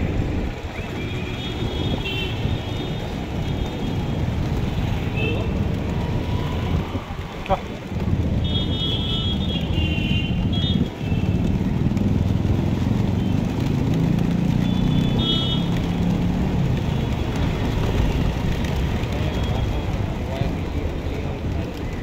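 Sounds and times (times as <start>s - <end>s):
pigeon wingbeats fluttering: 0.1s - 22.0s.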